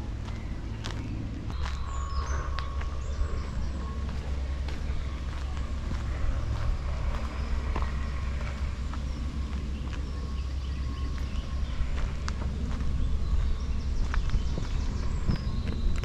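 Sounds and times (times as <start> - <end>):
footsteps on gravel: 0.0 - 16.0
low steady rumble: 0.0 - 16.0
small bird calls: 0.0 - 16.0.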